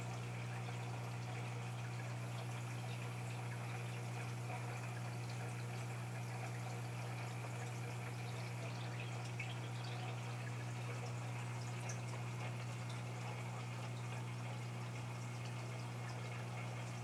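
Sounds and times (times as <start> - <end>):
aquarium pump humming: 0.0 - 17.0
faint drips or bubbles: 0.0 - 17.0
water trickling: 0.0 - 17.0.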